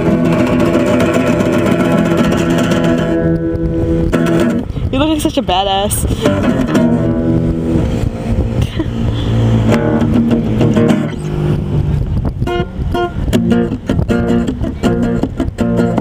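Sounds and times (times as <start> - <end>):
low steady rumble: 0.0 - 14.4
strummed guitar chords: 0.0 - 16.0.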